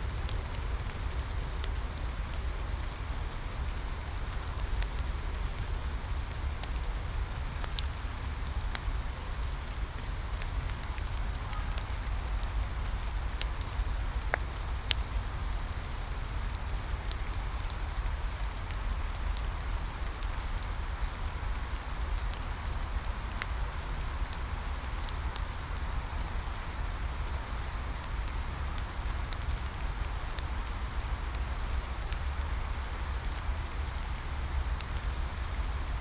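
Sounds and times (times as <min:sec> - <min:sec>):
bonfire crackling and popping: 0:00.0 - 0:36.0
rain falling: 0:00.0 - 0:36.0.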